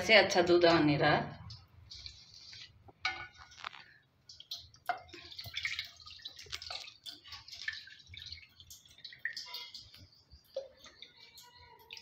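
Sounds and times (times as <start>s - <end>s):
milk splashing into a pan: 1.4s - 12.0s.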